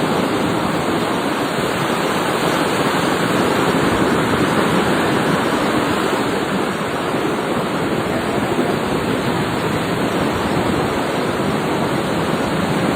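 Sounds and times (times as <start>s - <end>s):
ocean surf rushing: 0.0s - 12.9s.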